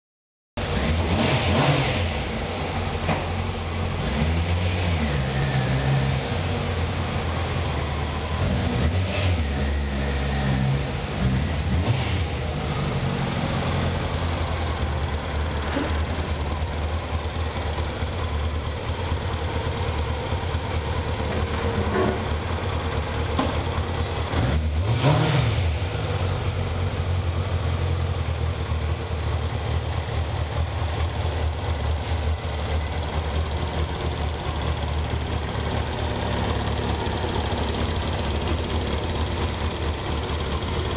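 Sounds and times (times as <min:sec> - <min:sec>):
motorcycle engine idling and revving: 0:00.6 - 0:40.9.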